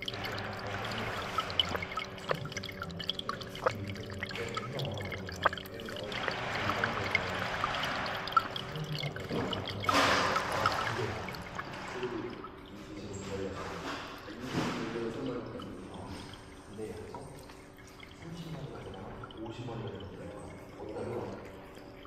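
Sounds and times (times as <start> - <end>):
low machine hum: 0.0 - 22.0
water trickling and dripping: 0.0 - 22.0.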